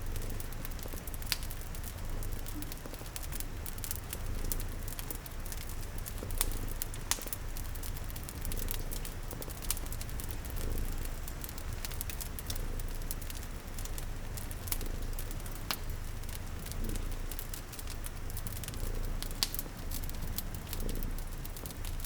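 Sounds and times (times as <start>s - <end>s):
cat purring: 0.0s - 22.0s
rain patter: 0.0s - 22.0s
wood fire crackling and popping: 0.0s - 22.0s.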